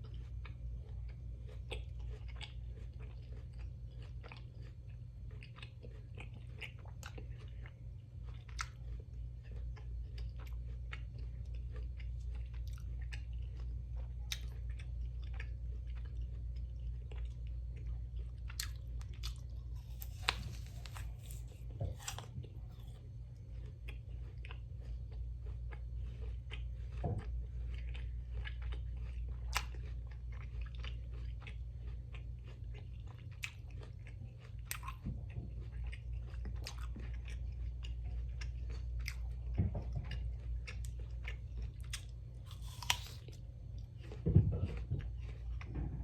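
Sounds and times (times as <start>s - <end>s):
crunchy apple chewing: 0.0s - 45.7s
steady low hum: 0.0s - 46.0s.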